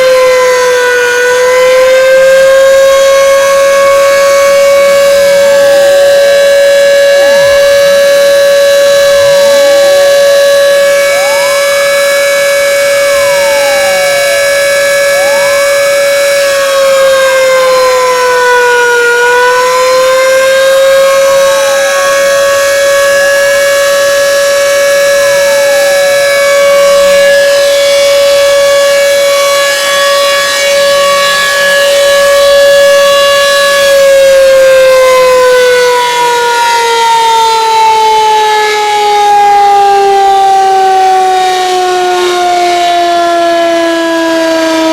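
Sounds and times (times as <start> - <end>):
faint sweeping siren tones: 0.0 - 44.9
siren steady held tone: 0.0 - 44.9.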